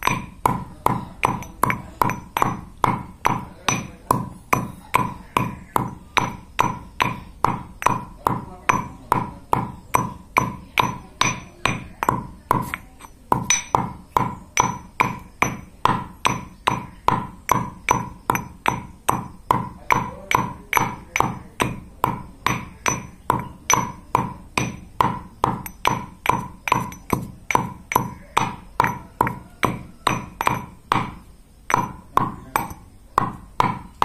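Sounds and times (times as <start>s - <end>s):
stone pestle pounding in mortar: 0.0s - 34.0s.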